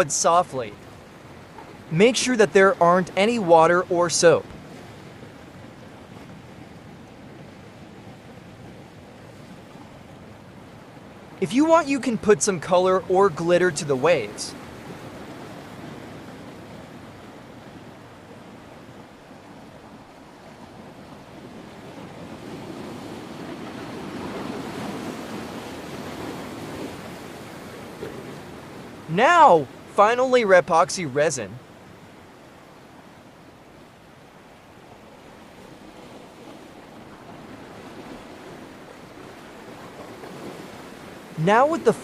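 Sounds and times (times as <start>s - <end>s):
ocean waves rushing: 0.0s - 42.0s.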